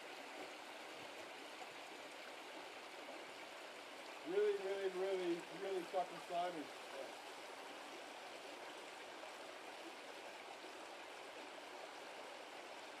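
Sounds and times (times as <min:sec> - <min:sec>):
brook water running: 0:00.0 - 0:13.0.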